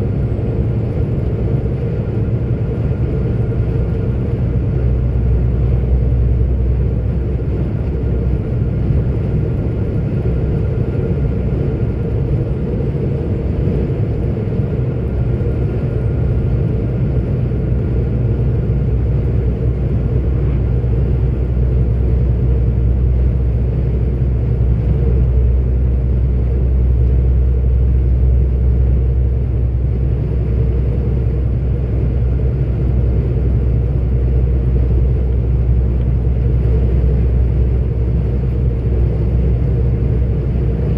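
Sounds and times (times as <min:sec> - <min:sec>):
road noise: 0:00.0 - 0:40.9
truck diesel engine: 0:00.0 - 0:40.9.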